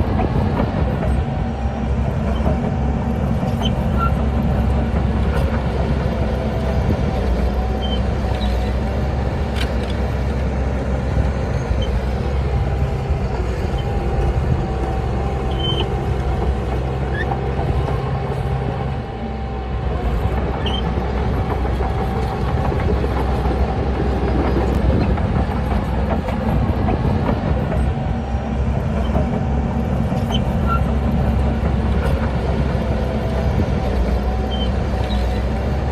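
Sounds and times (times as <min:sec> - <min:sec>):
diesel machinery engine drone: 0:00.0 - 0:35.9.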